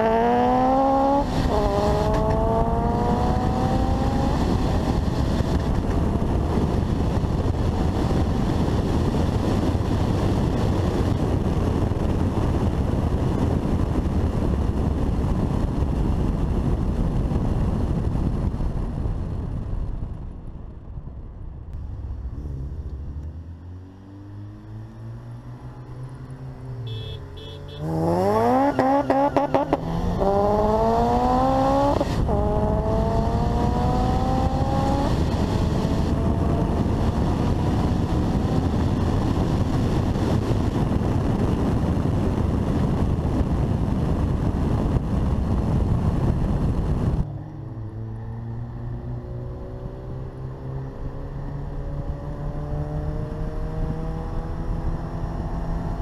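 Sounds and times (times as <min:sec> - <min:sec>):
car engine revving at full throttle: 0:00.0 - 0:18.9, 0:21.7 - 0:56.0
road noise at high speed: 0:00.0 - 0:56.0.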